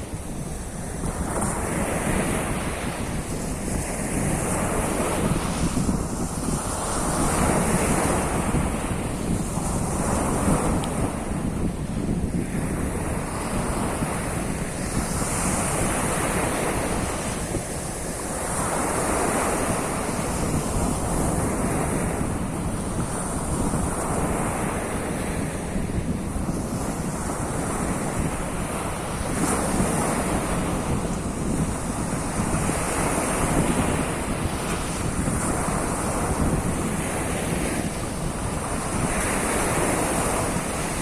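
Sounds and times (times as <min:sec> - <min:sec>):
waves washing onto shore: 0:00.0 - 0:41.0
wind buffeting microphone: 0:00.0 - 0:41.0.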